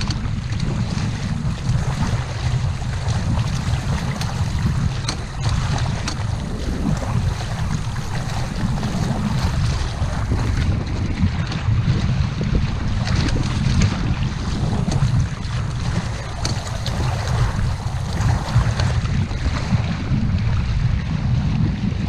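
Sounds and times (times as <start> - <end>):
water splashing around boat: 0.0 - 22.0
wind buffeting microphone: 0.0 - 22.0.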